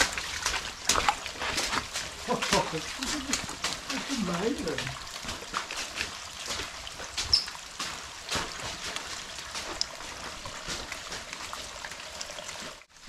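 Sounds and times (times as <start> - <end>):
heavy rain: 0.0 - 13.0
water running: 0.0 - 13.0.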